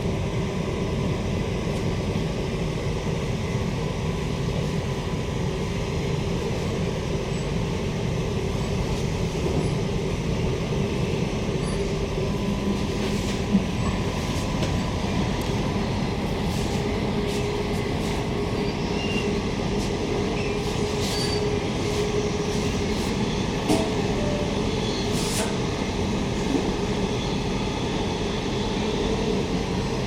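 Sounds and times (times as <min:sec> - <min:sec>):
train wheels rumbling on track: 0:00.0 - 0:30.0.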